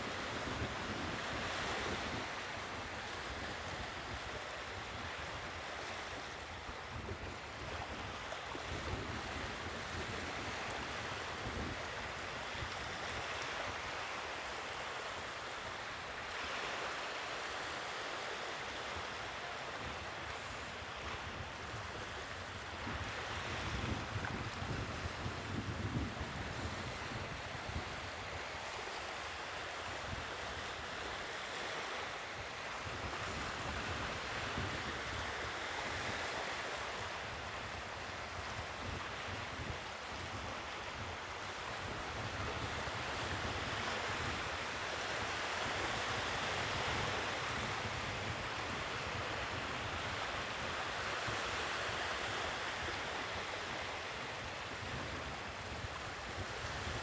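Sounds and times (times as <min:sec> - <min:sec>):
wind rumble on microphone: 0:00.0 - 0:14.3, 0:18.8 - 0:57.0
sea waves washing onto shore: 0:00.0 - 0:57.0.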